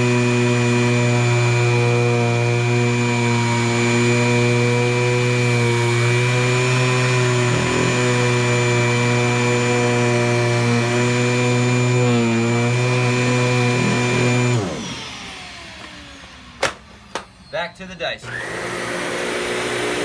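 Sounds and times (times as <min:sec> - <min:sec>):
vacuum cleaner running: 0:00.0 - 0:17.5, 0:18.2 - 0:20.0
vacuum motor winding down: 0:00.0 - 0:17.5, 0:18.2 - 0:20.0.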